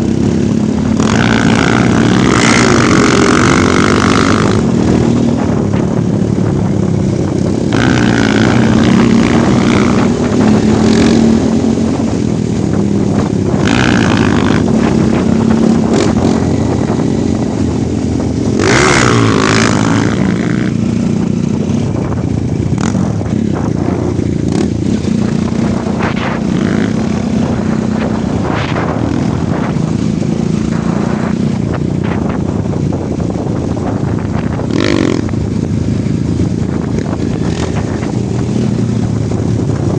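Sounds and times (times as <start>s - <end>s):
off-road motorcycle engine: 0.0s - 39.9s.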